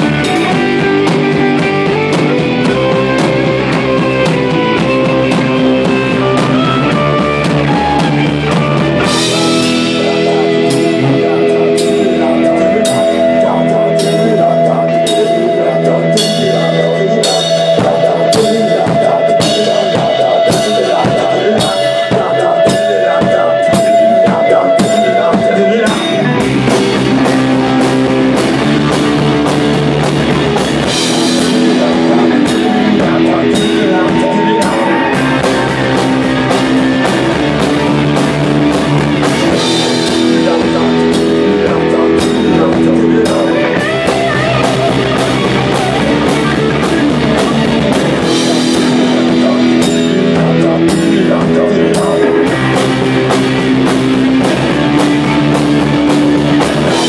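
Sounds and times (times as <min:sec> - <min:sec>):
drum kit beat: 0:00.0 - 0:57.0
electric guitars and bass chords: 0:00.0 - 0:57.0.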